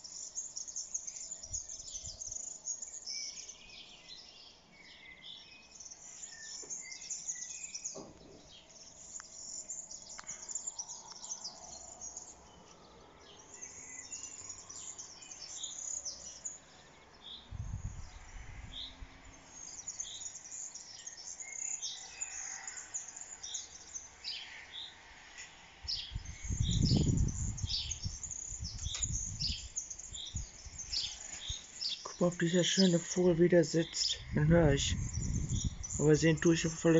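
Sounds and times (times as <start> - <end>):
songbirds singing and calling: 0.0 - 36.9.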